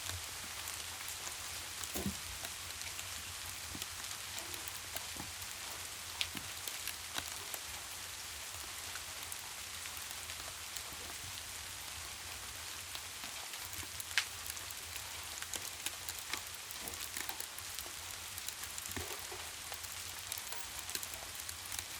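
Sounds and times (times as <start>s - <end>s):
steady rain hiss: 0.0s - 21.9s.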